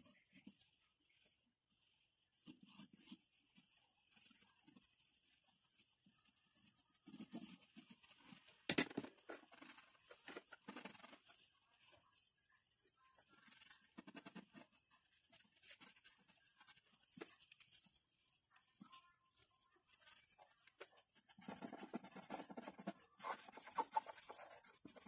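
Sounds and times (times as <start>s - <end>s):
pencil scratching on paper: 2.4s - 8.6s, 9.2s - 18.0s, 19.8s - 25.0s.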